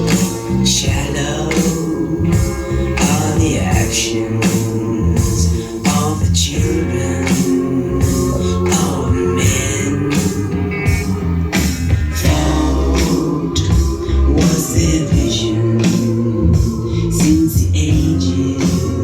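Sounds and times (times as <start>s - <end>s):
rock song with male vocals: 0.0s - 19.0s.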